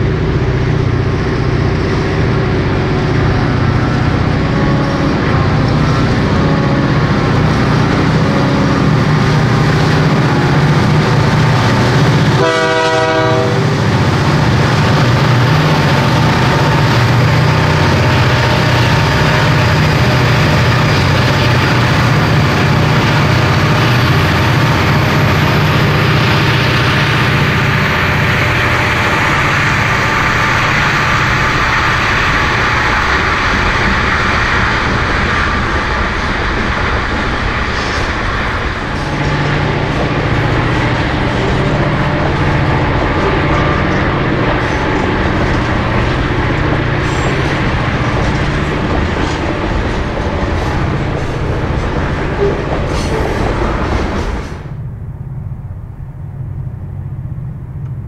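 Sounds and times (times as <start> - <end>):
diesel locomotive engine hum: 0.0 - 58.0
freight cars rolling on rails: 0.0 - 58.0.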